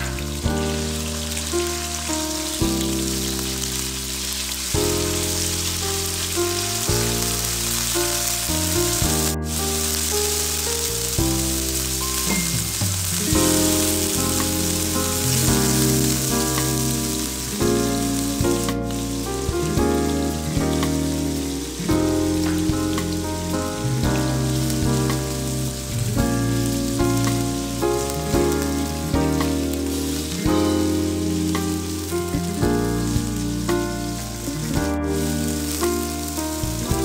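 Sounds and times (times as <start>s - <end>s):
background music: 0.0s - 37.0s
chicken sizzling in hot oil: 0.0s - 37.0s.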